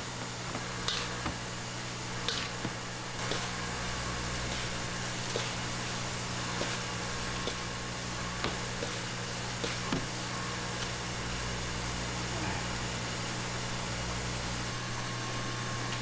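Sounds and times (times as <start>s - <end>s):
kitchen mechanical hum and hiss: 0.0s - 16.0s.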